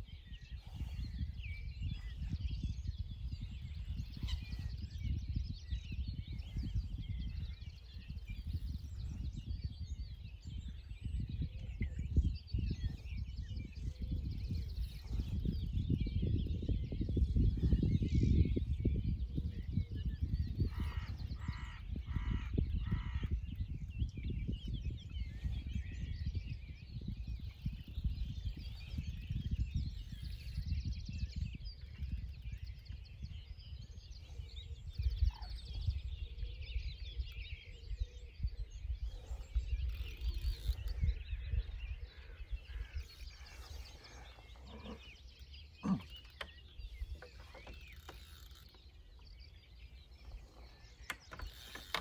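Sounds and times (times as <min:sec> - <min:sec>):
small birds chirping: 0:00.0 - 0:52.0
wind rumbling on microphone: 0:00.0 - 0:52.0.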